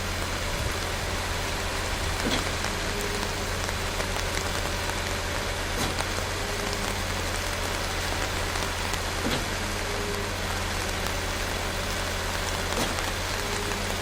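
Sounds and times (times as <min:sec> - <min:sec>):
constant low hum: 0:00.0 - 0:14.0
raindrop ticks: 0:00.0 - 0:14.0
steady rain falling: 0:00.0 - 0:14.0.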